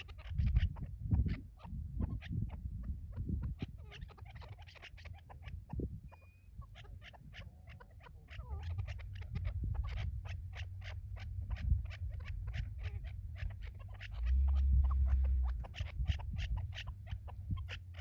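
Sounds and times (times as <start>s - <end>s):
low wind rumble: 0.0s - 18.0s.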